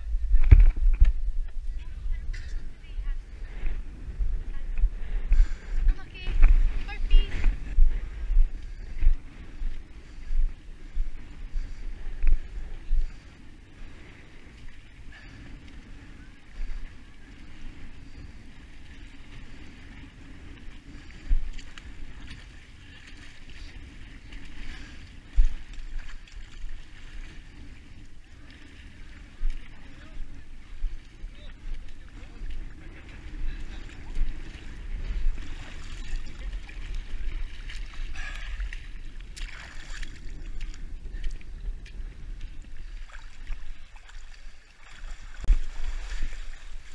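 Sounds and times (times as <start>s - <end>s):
wind rumbling on microphone: 0.0s - 46.9s
splashing through shallow water: 2.0s - 46.9s.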